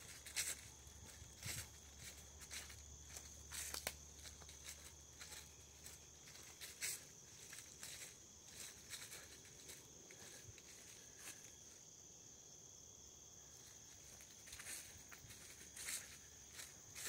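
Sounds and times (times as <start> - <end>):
footsteps on grassy trail: 0.0 - 11.8, 13.6 - 17.0
insects trilling: 0.0 - 17.0.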